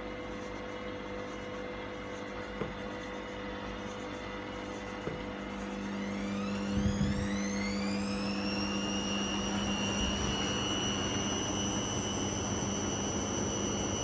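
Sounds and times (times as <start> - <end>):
steady low hum: 0.0 - 14.0
washing machine motor whine: 0.0 - 14.0.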